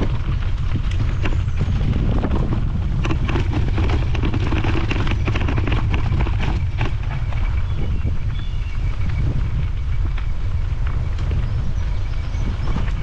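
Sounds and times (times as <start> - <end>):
bike rattling over cinder track: 0.0 - 13.0
wind buffeting microphone: 0.0 - 13.0.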